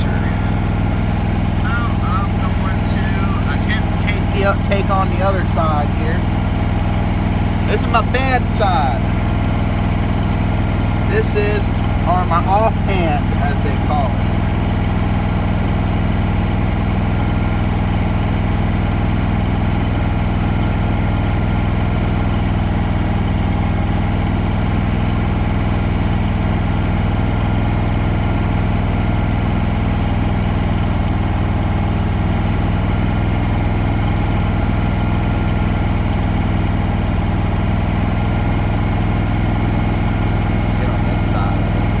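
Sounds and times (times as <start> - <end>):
generator engine running: 0.0 - 42.0.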